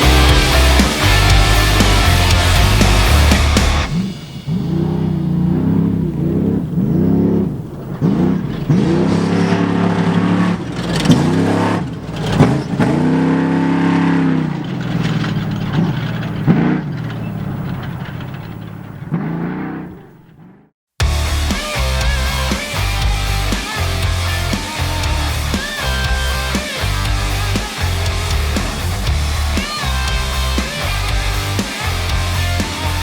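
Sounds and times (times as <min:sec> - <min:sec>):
race vehicle engines revving: 0:00.0 - 0:33.0
vehicles passing by: 0:00.0 - 0:33.0.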